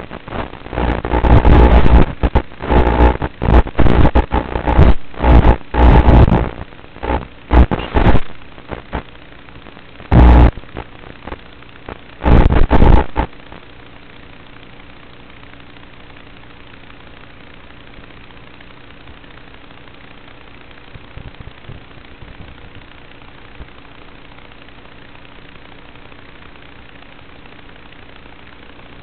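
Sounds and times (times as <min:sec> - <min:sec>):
crackling static with buzz: 0:00.0 - 0:29.0.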